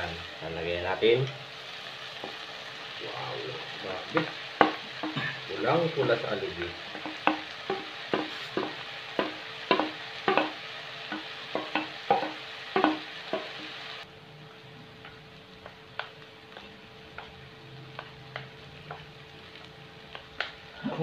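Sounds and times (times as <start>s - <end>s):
food sizzling in wok: 0.0s - 21.0s.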